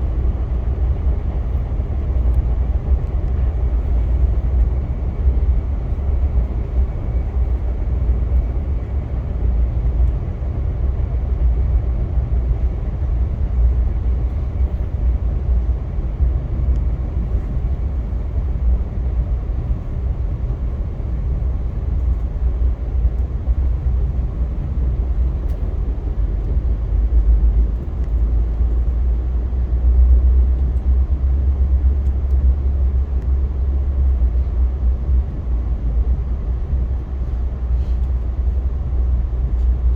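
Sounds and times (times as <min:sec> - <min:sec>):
passenger train rumbling on track: 0:00.0 - 0:39.9.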